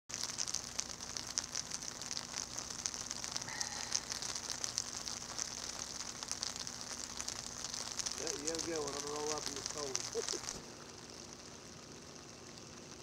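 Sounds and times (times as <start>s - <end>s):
freezing rain pattering on ice: 0.1s - 13.0s
faint low hum: 0.2s - 13.0s.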